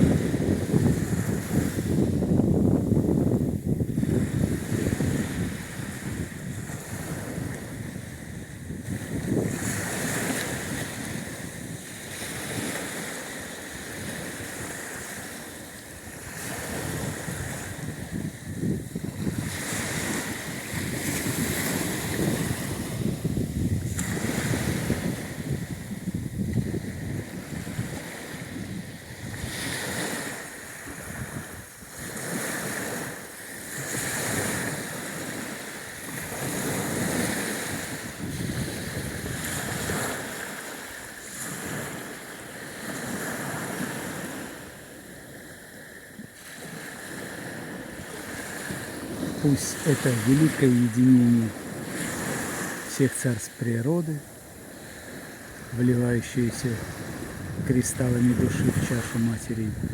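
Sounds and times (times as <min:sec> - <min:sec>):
waves washing onto shore: 0:00.0 - 0:59.9
wind on microphone: 0:00.0 - 0:59.9.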